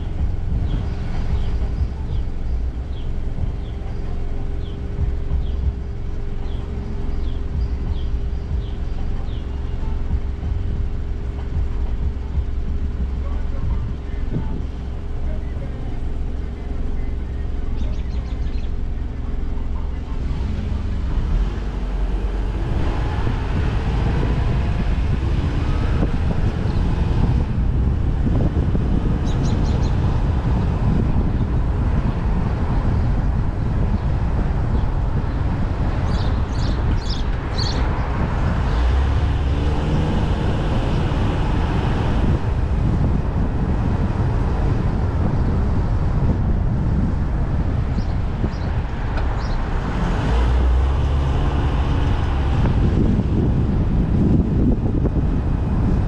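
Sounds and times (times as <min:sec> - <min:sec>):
engine hum of passing vehicles: 0:00.0 - 0:56.0
street traffic: 0:00.0 - 0:56.0
wind on microphone: 0:00.0 - 0:56.0.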